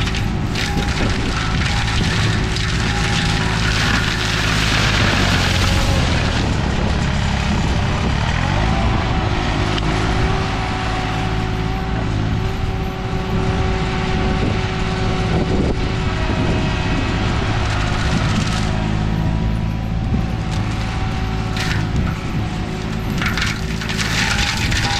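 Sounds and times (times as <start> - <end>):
slope mower engine running: 0.0 - 24.9.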